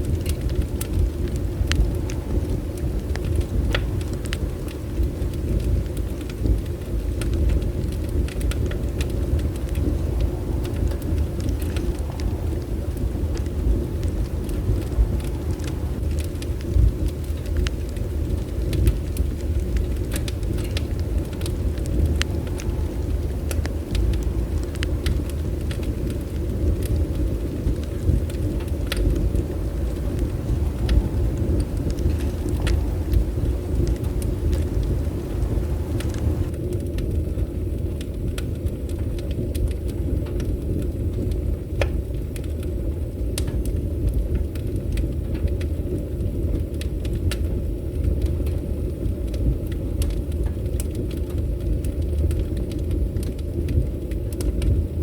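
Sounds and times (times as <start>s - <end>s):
bonfire flames rumbling: 0.0s - 55.0s
burning wood crackling and popping: 0.0s - 55.0s.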